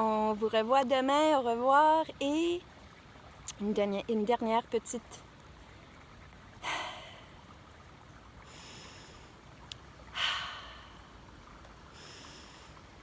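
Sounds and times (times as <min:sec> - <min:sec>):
faint flowing water: 0:00.0 - 0:13.0.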